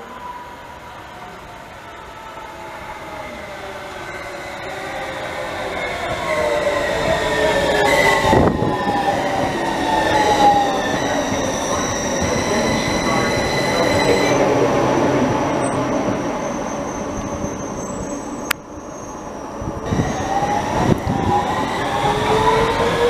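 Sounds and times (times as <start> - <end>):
metro train passing on rails: 0.0 - 23.0.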